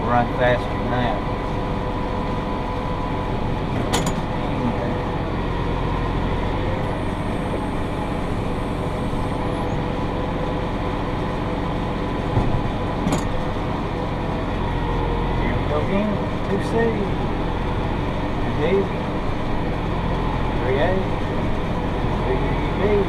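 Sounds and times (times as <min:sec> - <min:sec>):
tractor running under load: 0:00.0 - 0:23.0.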